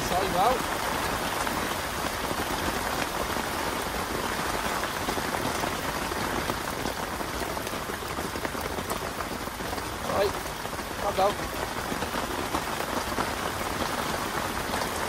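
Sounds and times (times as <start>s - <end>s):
heavy rain on water: 0.0s - 15.0s.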